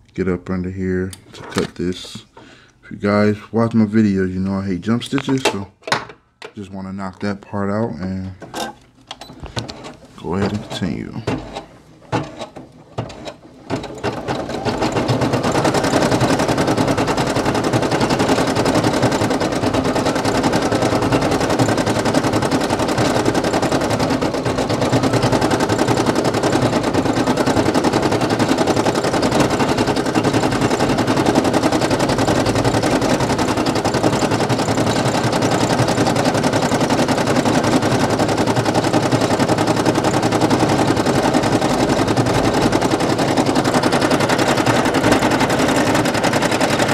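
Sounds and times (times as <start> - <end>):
embroidery machine needle clattering: 8.4 - 46.9.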